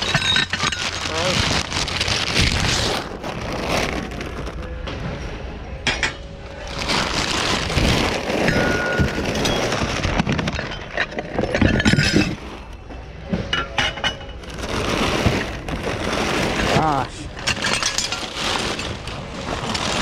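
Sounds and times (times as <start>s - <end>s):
hard items clinking and clattering: 0.0s - 20.0s.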